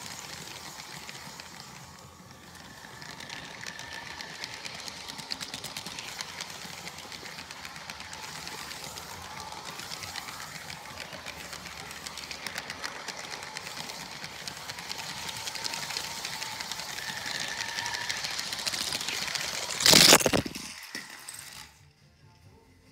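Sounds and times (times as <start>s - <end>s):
toy train crash: 0.0s - 21.9s
toy train rattling on plastic track: 0.0s - 22.0s.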